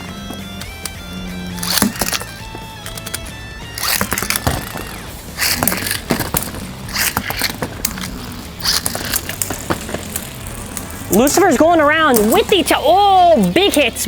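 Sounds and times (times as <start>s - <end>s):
spinning tops clicking and colliding: 0.3s - 14.0s
rushing scrape: 1.4s - 13.5s.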